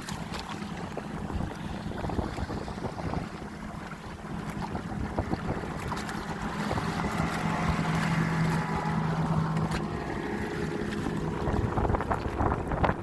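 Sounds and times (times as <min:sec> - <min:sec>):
electric outboard motor humming: 0:00.0 - 0:13.0
water washing: 0:00.0 - 0:13.0
wind noise on microphone: 0:00.0 - 0:13.0.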